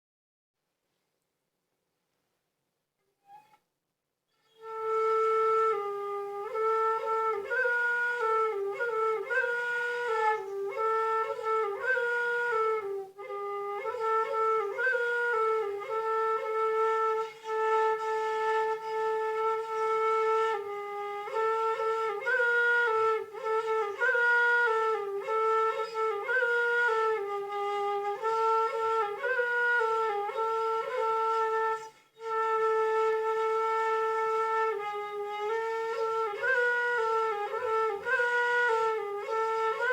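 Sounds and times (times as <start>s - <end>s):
solo flute melody: 4.4s - 39.9s.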